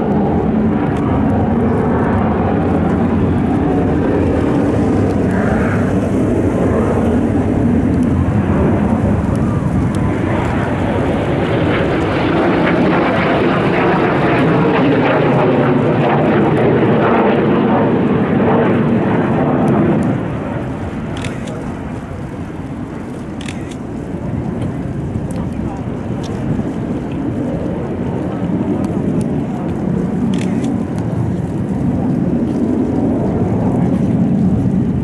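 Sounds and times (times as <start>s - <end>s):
jet aircraft roaring: 0.0s - 35.0s.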